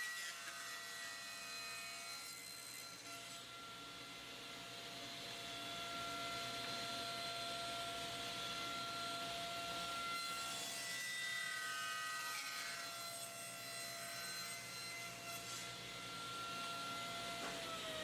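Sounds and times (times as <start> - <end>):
table saw whine: 0.0 - 18.0.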